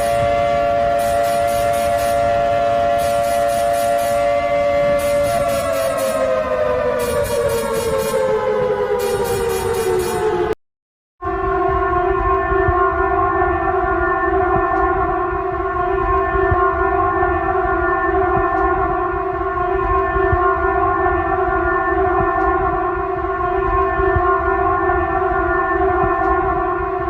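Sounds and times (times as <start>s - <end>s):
warning siren steady tone: 0.0s - 10.6s, 11.2s - 27.0s.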